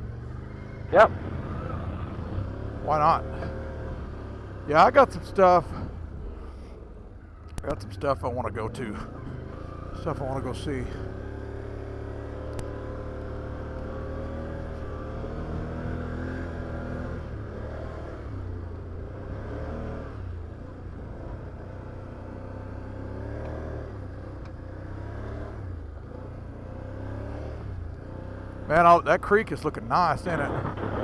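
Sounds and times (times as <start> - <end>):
atv engine revving: 0.0 - 20.1, 21.2 - 31.0.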